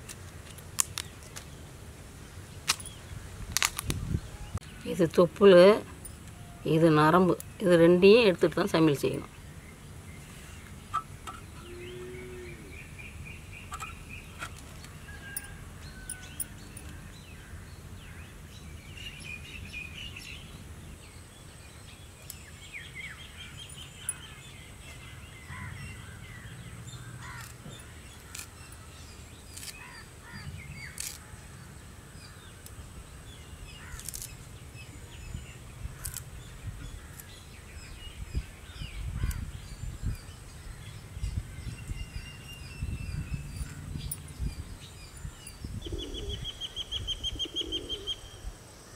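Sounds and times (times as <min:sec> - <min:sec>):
birds chirping: 0:04.0 - 0:48.9.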